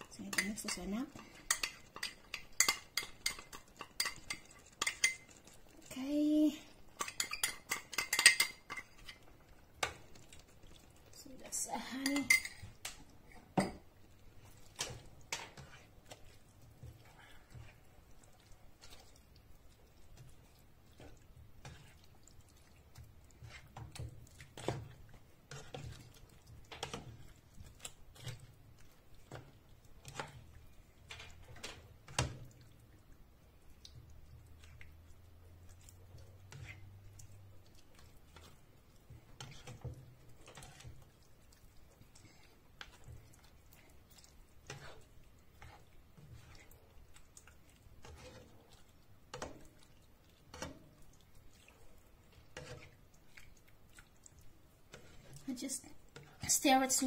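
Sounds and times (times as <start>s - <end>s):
spatula scraping frying pan: 0.1s - 5.7s, 6.7s - 32.5s, 34.4s - 57.0s.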